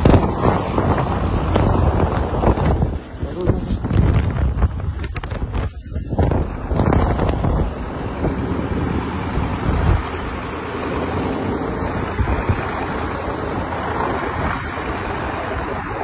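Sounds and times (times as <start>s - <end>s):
truck driving through snow: 0.0s - 16.0s
wind noise on microphone: 0.0s - 16.0s.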